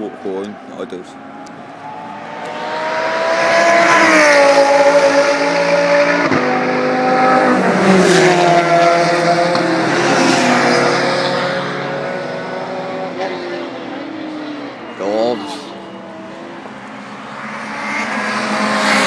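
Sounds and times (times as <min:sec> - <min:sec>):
race cars passing at speed: 0:00.0 - 0:19.0.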